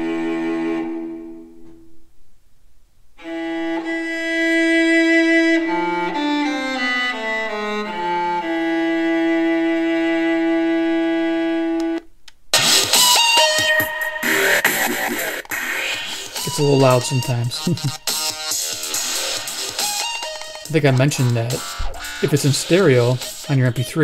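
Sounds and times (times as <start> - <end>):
violin music from a radio: 0.0 - 1.5, 3.2 - 12.0, 12.6 - 24.0.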